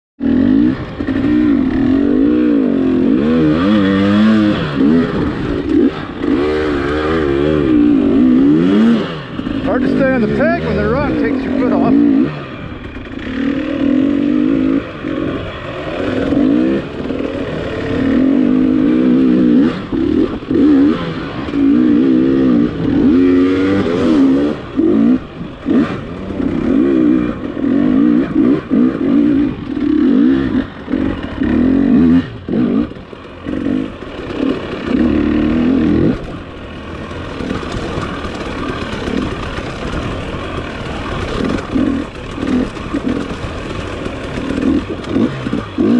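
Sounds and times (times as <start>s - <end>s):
dirt bike engine revving: 0.2s - 45.9s.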